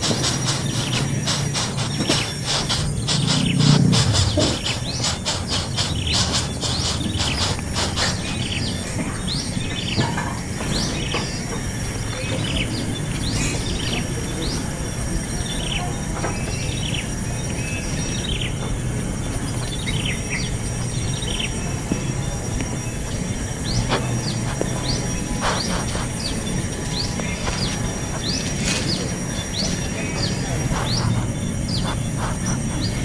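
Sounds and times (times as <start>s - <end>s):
small birds chirping: 0.0s - 33.0s
steady low hum: 0.0s - 33.0s.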